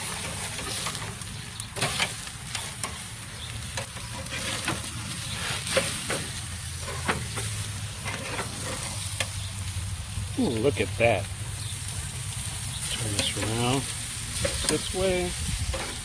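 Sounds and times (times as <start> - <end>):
food sizzling on a grill: 0.0 - 16.0.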